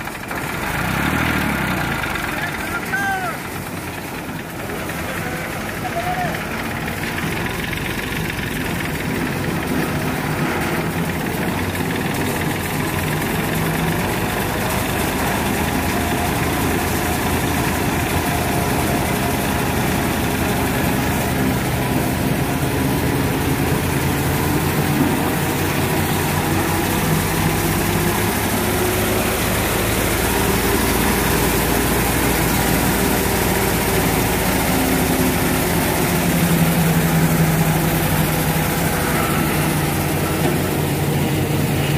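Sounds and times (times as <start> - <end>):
thresher machinery droning: 0.0 - 41.9.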